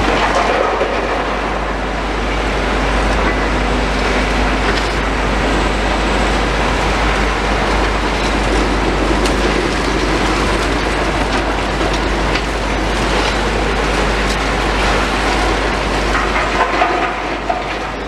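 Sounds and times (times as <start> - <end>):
demolition machinery engine rumble: 0.0 - 18.0
continuous rattle: 3.0 - 18.0.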